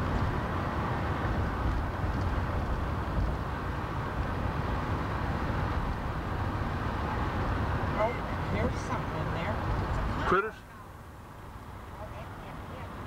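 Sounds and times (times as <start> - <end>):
car interior road noise: 0.0 - 13.0.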